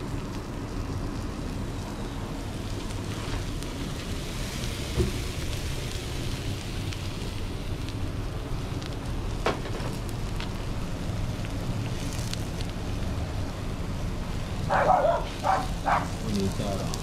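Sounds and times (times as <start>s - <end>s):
food sizzling on a griddle: 0.0s - 17.0s
small pops and crackles: 0.0s - 17.0s.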